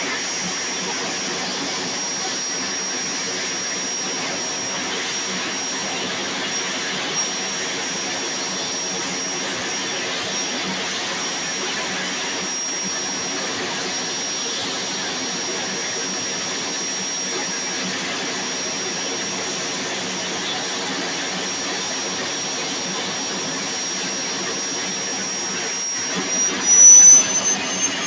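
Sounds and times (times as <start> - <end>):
turbine aircraft engine whining: 0.0 - 28.0.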